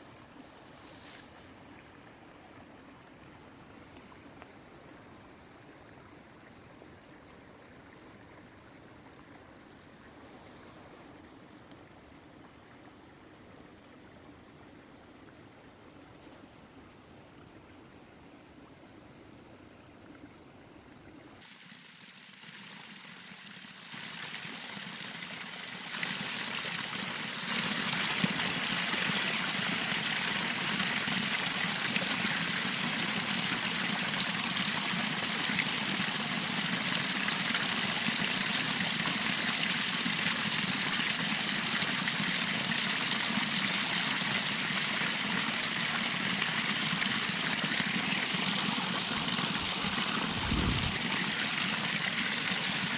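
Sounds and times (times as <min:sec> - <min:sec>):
stream water running: 0:00.0 - 0:52.9.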